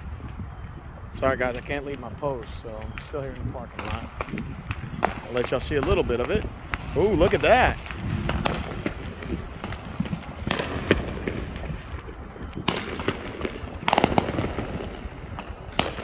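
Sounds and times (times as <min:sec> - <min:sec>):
fireworks banging: 0:00.0 - 0:16.0
fireworks crackling: 0:00.0 - 0:16.0.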